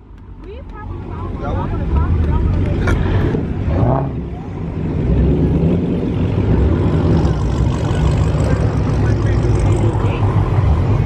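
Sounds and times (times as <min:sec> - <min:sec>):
car engines rumbling low: 0:00.0 - 0:11.0.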